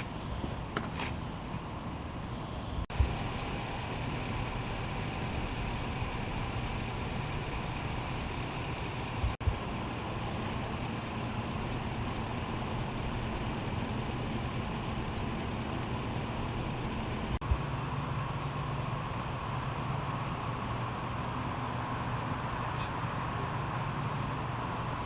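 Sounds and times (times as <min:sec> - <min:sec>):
motor vehicles rumbling: 0:00.0 - 0:25.0.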